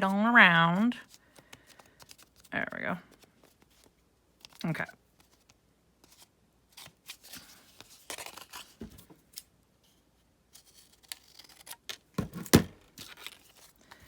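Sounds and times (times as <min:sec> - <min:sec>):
paper rustling: 0:00.7 - 0:10.0, 0:10.6 - 0:14.0.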